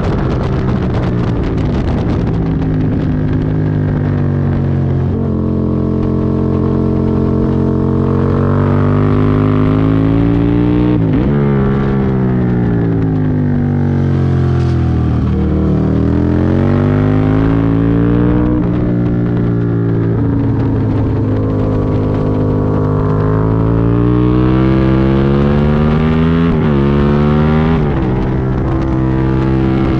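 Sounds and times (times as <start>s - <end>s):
motorcycle engine revving: 0.0s - 29.9s
wind rush: 0.0s - 29.9s.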